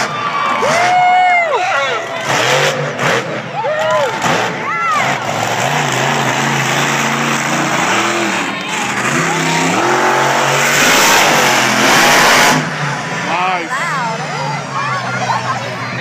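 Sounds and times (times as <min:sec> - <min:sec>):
truck engine revving hard: 0:02.0 - 0:16.0.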